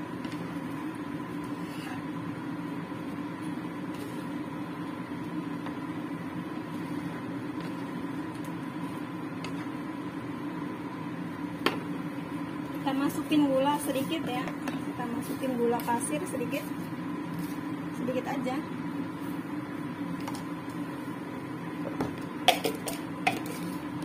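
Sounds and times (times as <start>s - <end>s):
mechanical hum with whine: 0.0s - 24.0s.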